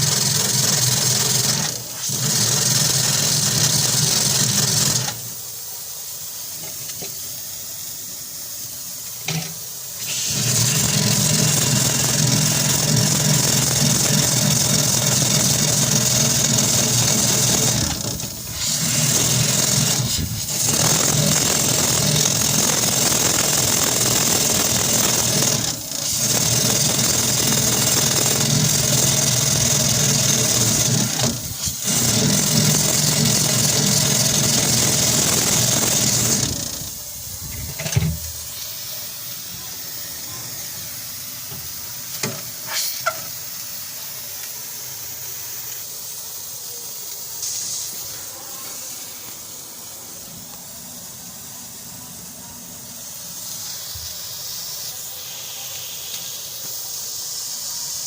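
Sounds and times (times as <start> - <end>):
small machine humming and hissing: 0.0 - 58.0.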